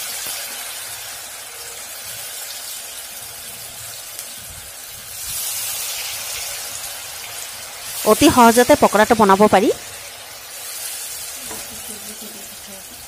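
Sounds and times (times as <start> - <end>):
deep-frying sizzle: 0.0 - 13.0.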